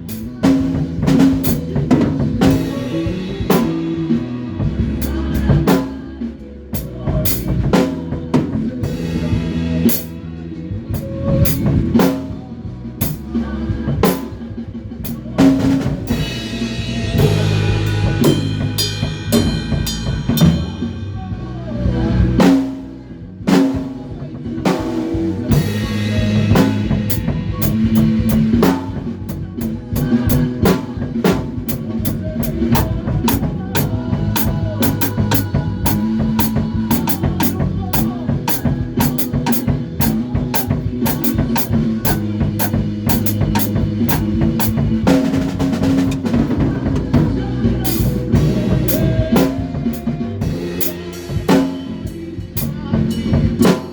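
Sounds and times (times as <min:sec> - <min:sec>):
fast cymbal beat: 0:00.0 - 0:06.2, 0:06.8 - 0:10.4, 0:11.0 - 0:12.4, 0:13.0 - 0:14.4, 0:15.0 - 0:21.2, 0:24.7 - 0:53.9
rock band playing: 0:00.0 - 0:53.9.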